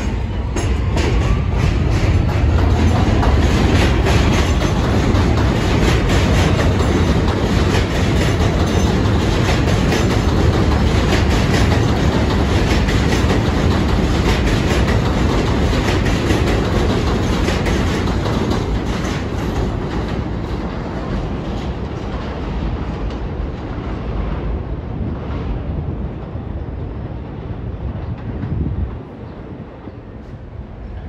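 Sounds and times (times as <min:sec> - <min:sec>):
subway train wheels clacking: 0:00.0 - 0:31.0.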